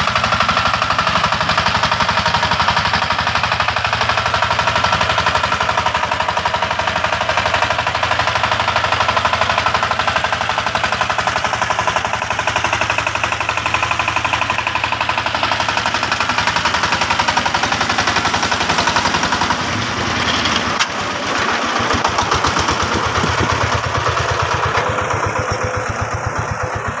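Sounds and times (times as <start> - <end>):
diesel engine chugging: 0.0 - 27.0.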